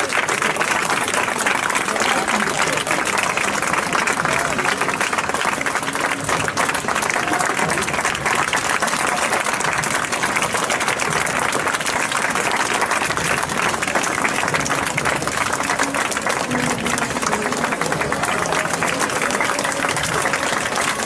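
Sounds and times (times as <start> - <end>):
crowd clapping: 0.0 - 21.0.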